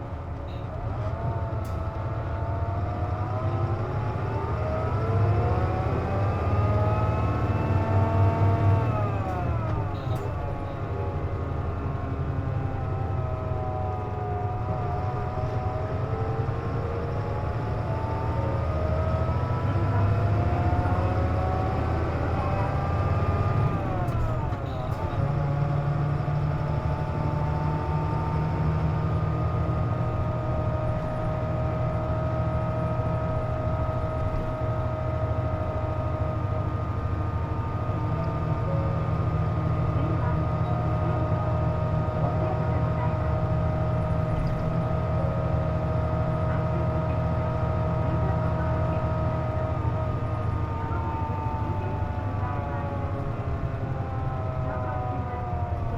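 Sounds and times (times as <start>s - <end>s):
bus engine drone with whine: 0.0s - 55.9s.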